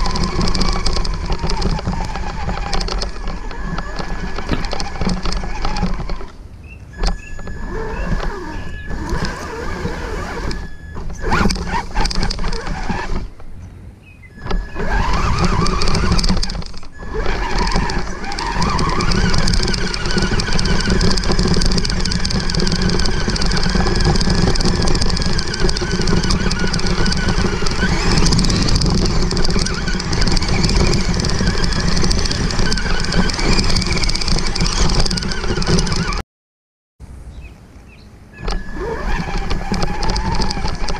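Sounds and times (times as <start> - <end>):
electric motor and gears whining: 0.0 - 36.2, 38.4 - 40.9.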